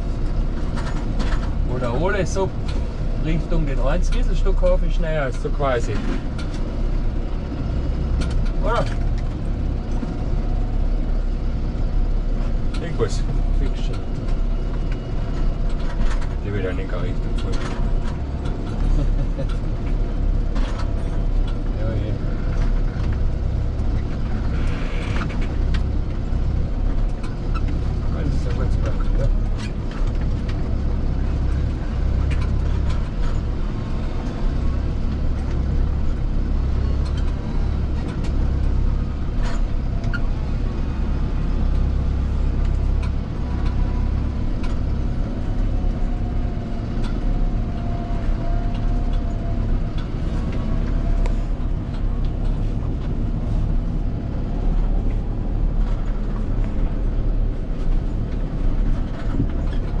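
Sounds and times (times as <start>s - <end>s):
tractor diesel engine running: 0.0s - 60.0s.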